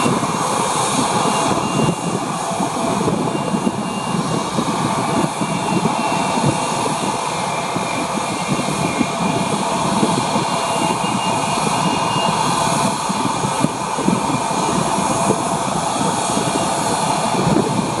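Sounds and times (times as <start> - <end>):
faint jet engine whine: 0.0 - 18.0
jet engine rumble: 0.0 - 18.0.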